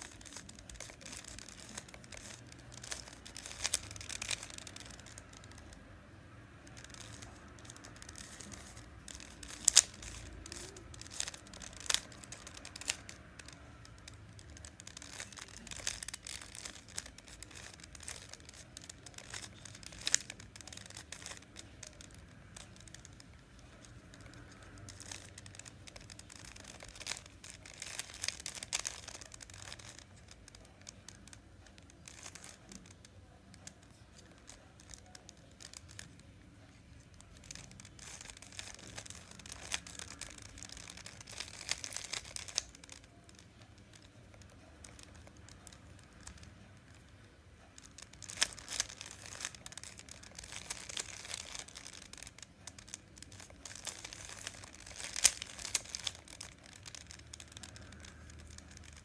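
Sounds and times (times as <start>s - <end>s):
puzzle cube clicking and rattling: 0.0s - 59.0s.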